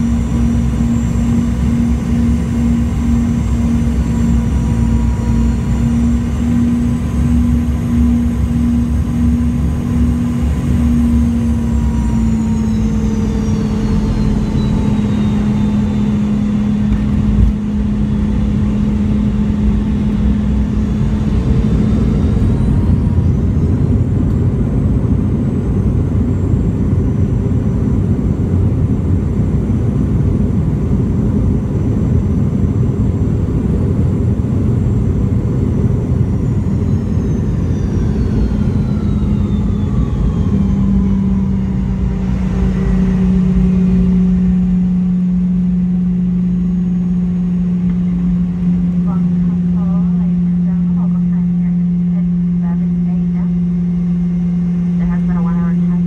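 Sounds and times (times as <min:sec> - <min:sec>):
engine high whine: 0:00.0 - 0:56.0
jet engine hum through cabin: 0:00.0 - 0:56.0.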